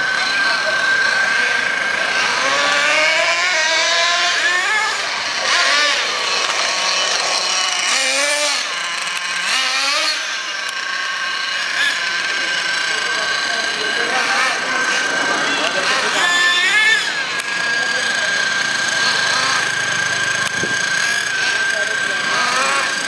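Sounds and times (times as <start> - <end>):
small model engine revving: 0.0 - 23.0.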